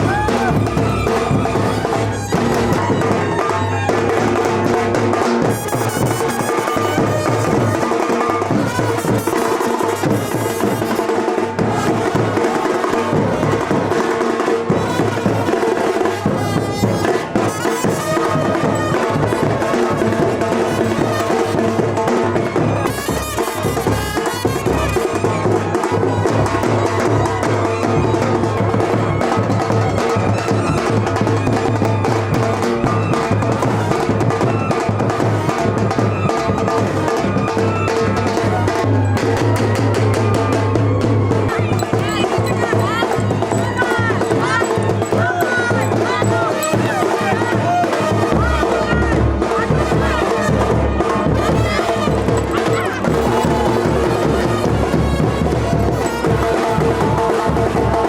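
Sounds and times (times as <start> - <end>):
drum beat: 0.0 - 58.0.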